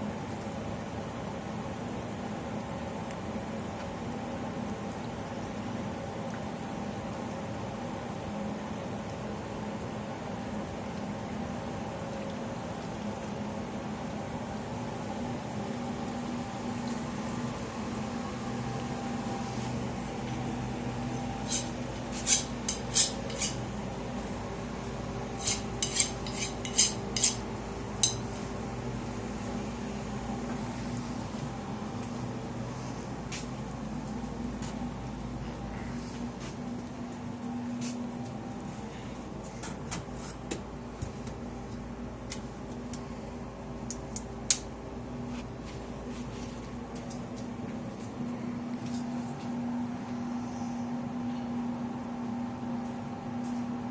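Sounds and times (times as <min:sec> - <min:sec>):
low hum of shop equipment: 0:00.0 - 0:53.9.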